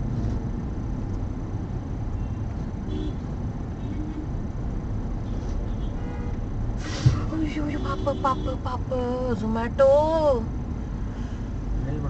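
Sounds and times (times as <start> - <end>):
traffic rumble from inside car: 0.0 - 12.0.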